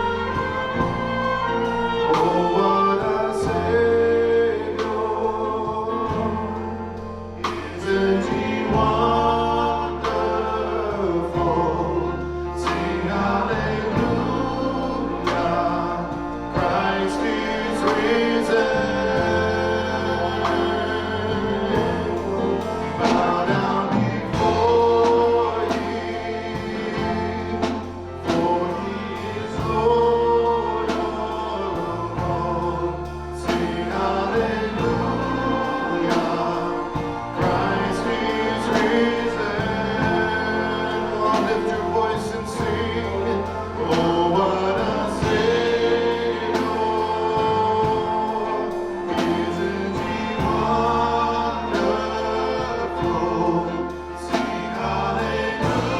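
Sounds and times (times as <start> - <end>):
band playing: 0.0 - 55.9
choir singing: 0.0 - 55.9
steady drum beat: 0.0 - 55.9.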